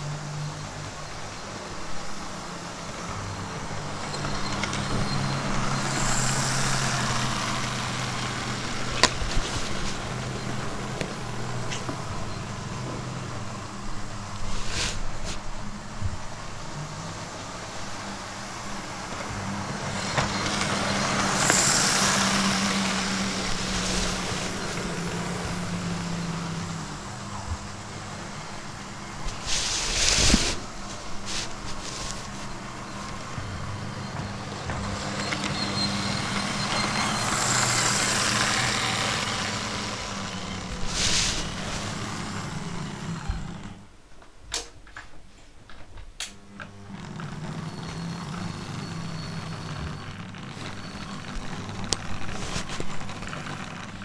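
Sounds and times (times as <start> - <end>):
model train motors whirring: 0.0 - 44.0, 46.2 - 54.0.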